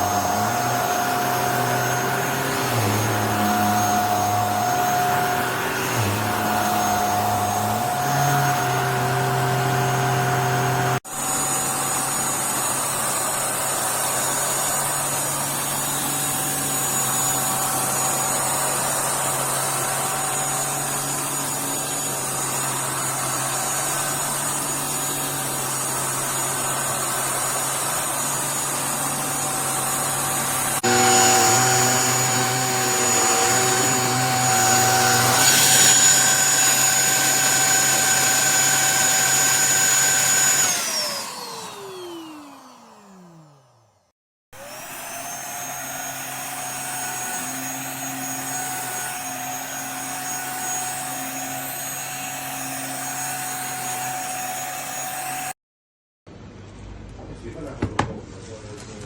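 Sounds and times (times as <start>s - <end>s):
handheld vacuum cleaner running: 0.0s - 44.0s, 44.6s - 55.6s.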